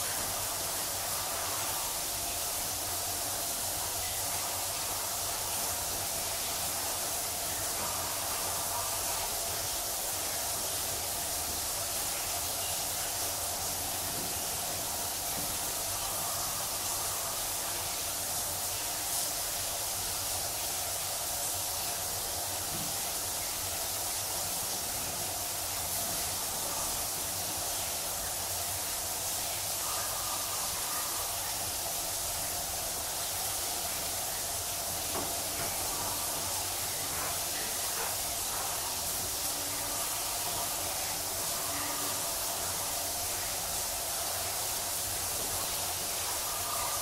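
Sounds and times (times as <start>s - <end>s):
shower water spraying: 0.0s - 47.0s.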